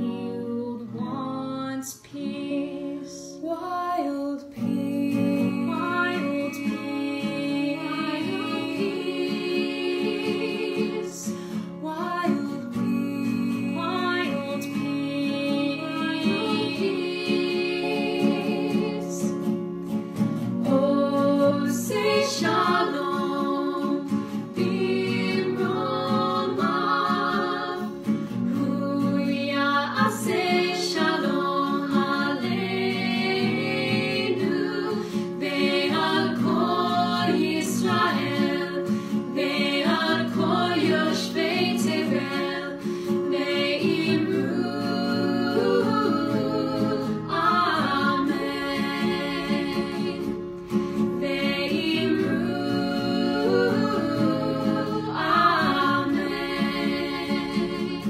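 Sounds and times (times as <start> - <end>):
women singing in harmony: 0.0 - 19.6, 20.6 - 58.0
acoustic guitar: 0.0 - 58.0.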